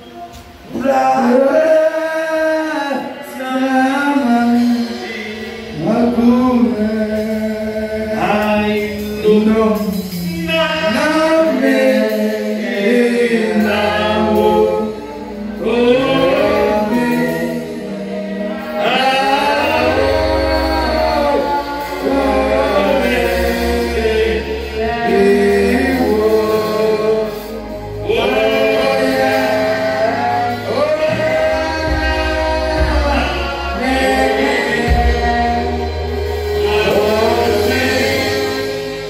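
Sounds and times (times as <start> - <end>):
man singing gospel: 0.0 - 39.0
women singing gospel: 0.0 - 39.0.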